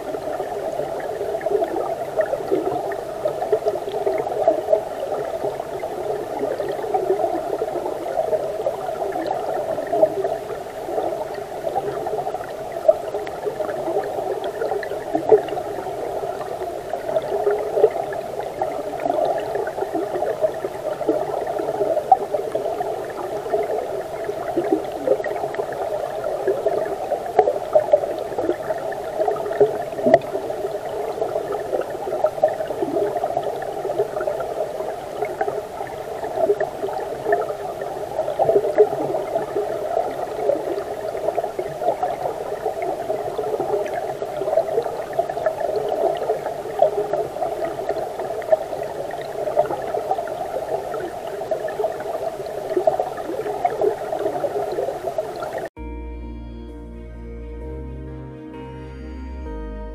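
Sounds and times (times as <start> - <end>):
small underwater pops and crackles: 0.0 - 55.7
underwater stream rush: 0.0 - 55.8.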